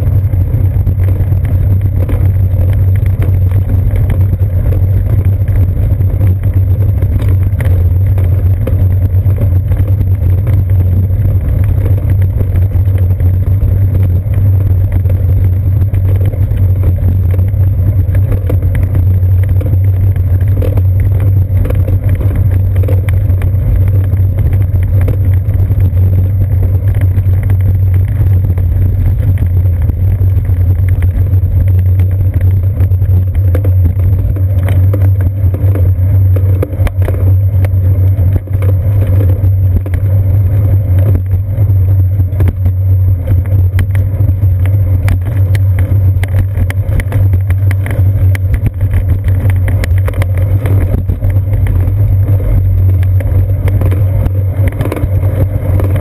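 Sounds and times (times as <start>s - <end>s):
bicycle rolling over bricks: 0.0s - 56.0s
rapid rattling clicks: 0.0s - 56.0s.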